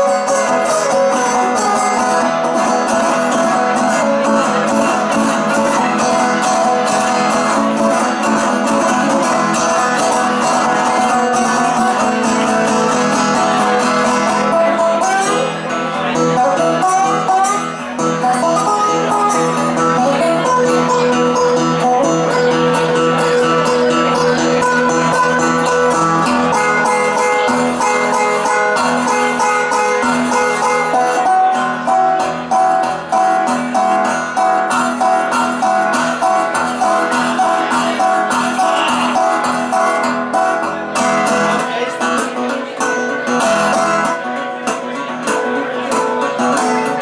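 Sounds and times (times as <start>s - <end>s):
plucked string instrument: 0.0s - 47.0s.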